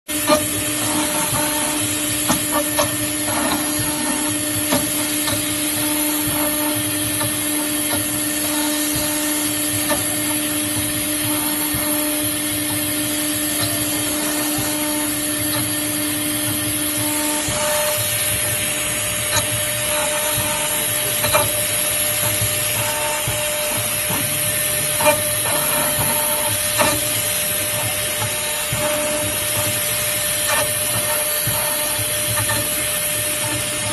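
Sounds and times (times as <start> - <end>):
cnc spindle whine: 0.1 - 33.9.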